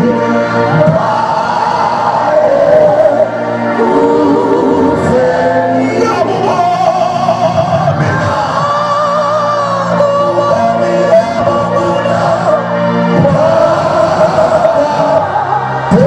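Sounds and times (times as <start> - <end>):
man singing into a microphone: 0.0 - 16.0
musical accompaniment: 0.0 - 16.0.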